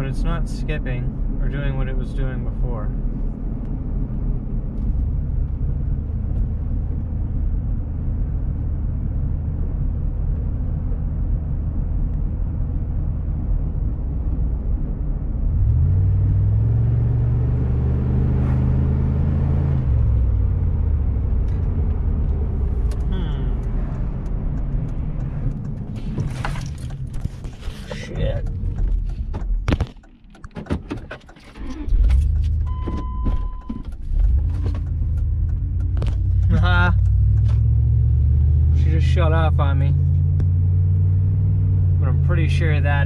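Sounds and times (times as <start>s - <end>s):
truck engine accelerating: 3.5s - 43.0s.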